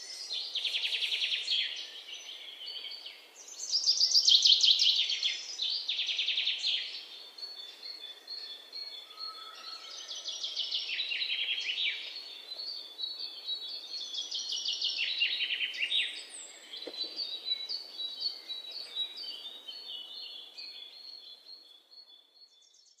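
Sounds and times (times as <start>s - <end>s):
songbirds trilling and chirping: 0.0s - 23.0s.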